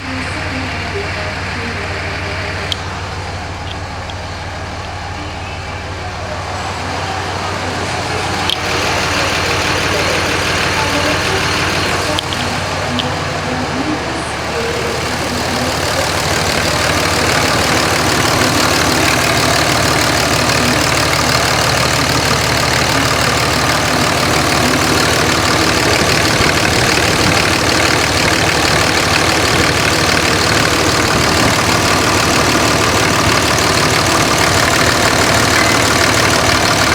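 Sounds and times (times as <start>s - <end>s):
diesel engine clattering: 0.0s - 36.9s.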